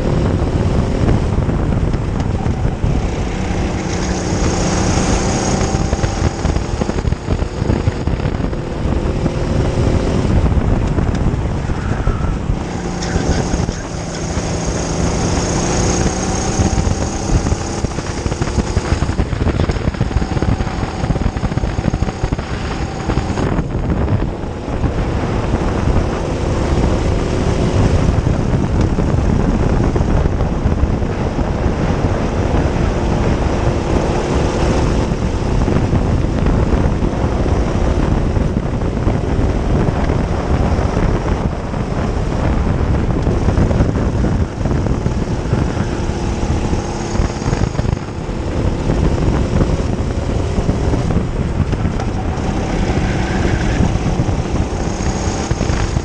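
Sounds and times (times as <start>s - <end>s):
kart engine running hard: 0.0s - 56.0s
wind buffeting microphone: 0.0s - 56.0s.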